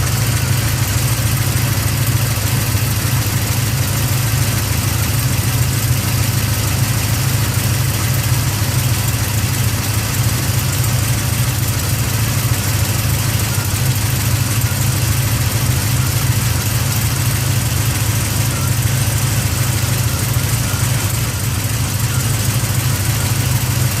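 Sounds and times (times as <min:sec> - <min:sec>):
car engine idling: 0:00.0 - 0:24.0
engine lifter ticking: 0:00.0 - 0:24.0.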